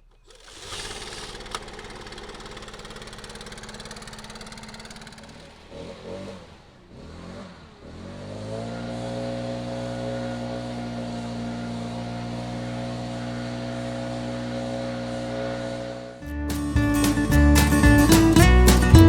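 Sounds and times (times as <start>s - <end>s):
leaf blower engine running: 0.0s - 16.2s.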